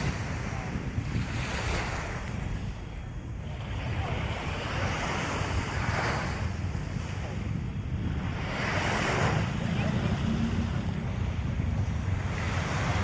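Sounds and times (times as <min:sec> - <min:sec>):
ocean surf on a beach: 0:00.0 - 0:13.0
wind buffeting microphone: 0:00.0 - 0:13.0.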